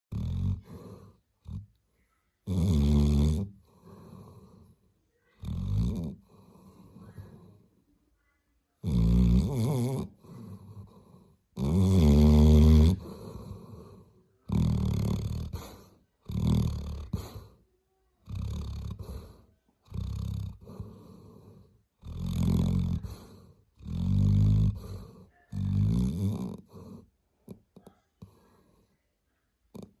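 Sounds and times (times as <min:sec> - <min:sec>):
dog snoring: 0:00.1 - 0:01.8, 0:02.4 - 0:04.8, 0:05.4 - 0:07.7, 0:08.8 - 0:17.6, 0:18.2 - 0:28.8, 0:29.7 - 0:30.0.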